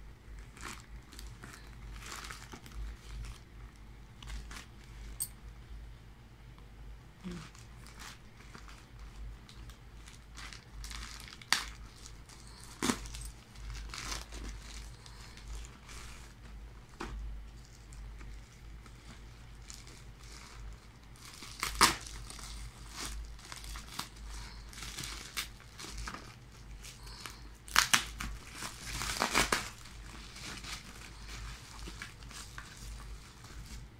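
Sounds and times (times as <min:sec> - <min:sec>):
plastic packaging crinkling: 0:00.3 - 0:05.3, 0:07.3 - 0:33.9.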